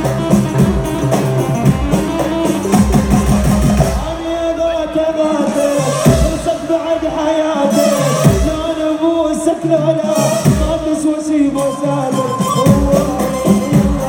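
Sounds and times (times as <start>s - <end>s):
drums and percussion: 0.0s - 14.0s
violins melody: 0.0s - 14.0s
man singing: 1.9s - 14.0s.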